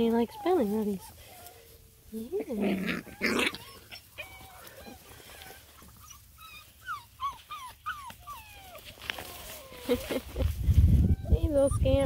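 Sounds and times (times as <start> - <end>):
puppies whimpering and yipping: 0.0 - 12.0.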